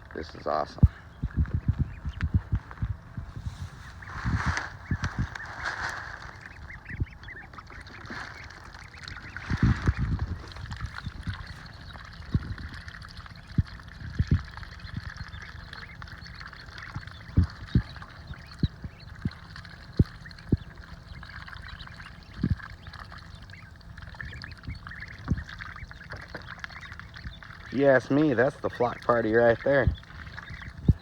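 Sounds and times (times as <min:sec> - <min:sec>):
ducklings splashing in water: 0:00.1 - 0:02.5, 0:03.4 - 0:31.0
soft duck calls: 0:03.6 - 0:12.8, 0:15.1 - 0:31.0.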